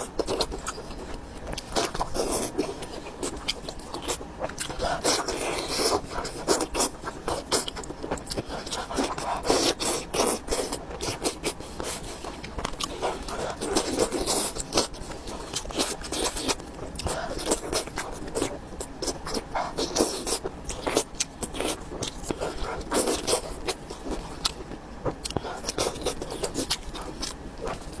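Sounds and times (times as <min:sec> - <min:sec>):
chewing and mouth smacking: 0:00.0 - 0:28.0.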